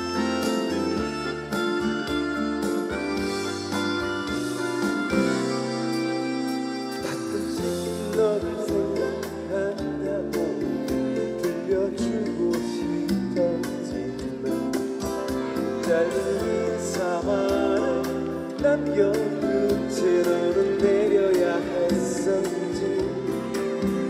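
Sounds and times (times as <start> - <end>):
band music: 0.0 - 24.0
strummed acoustic guitar: 0.0 - 24.0.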